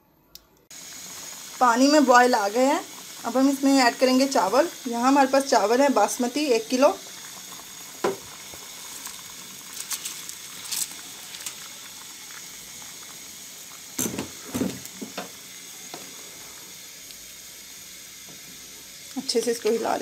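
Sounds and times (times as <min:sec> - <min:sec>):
stock bubbling at a boil: 0:00.7 - 0:20.0.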